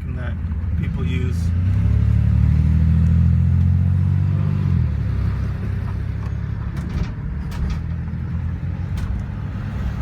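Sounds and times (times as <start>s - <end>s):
road rumble: 0.0s - 10.0s
van engine drone: 0.0s - 10.0s.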